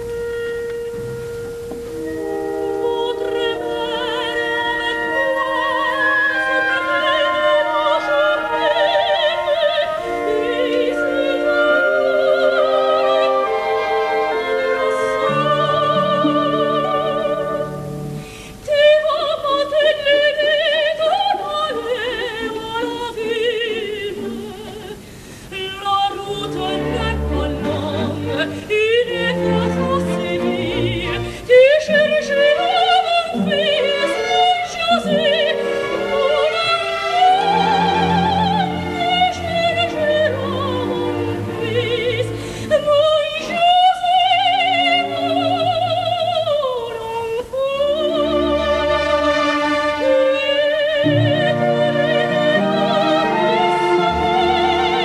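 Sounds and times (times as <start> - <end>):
orchestra: 0.0 - 55.0
operatic duet singing: 2.2 - 55.0.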